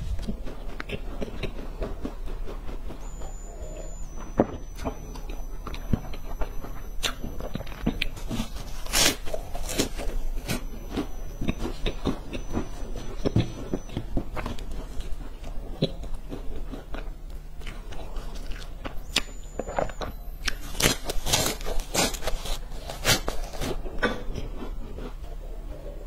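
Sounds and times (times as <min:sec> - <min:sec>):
crunchy snack chewing: 0:00.1 - 0:25.2.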